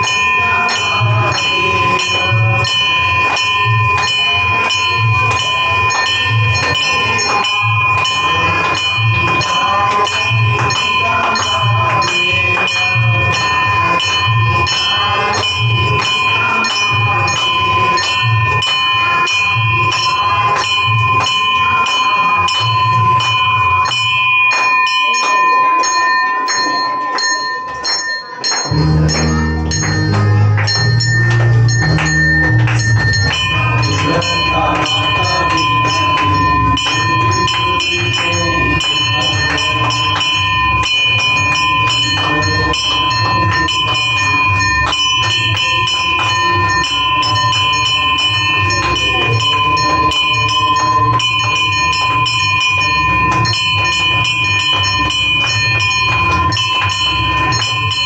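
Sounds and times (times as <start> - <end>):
hand bells ringing: 0.0 - 58.0
people chanting: 0.0 - 58.0.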